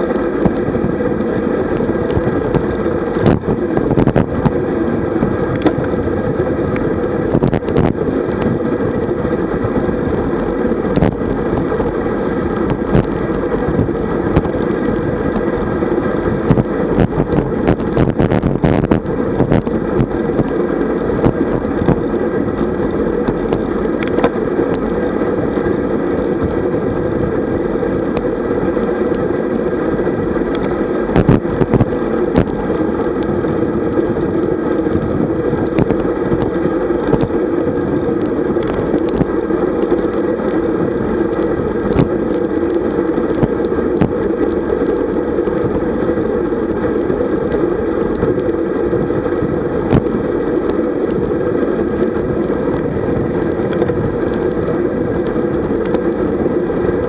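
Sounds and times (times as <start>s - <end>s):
tyre hum on asphalt: 0.0s - 57.0s
wind rush: 0.0s - 57.0s.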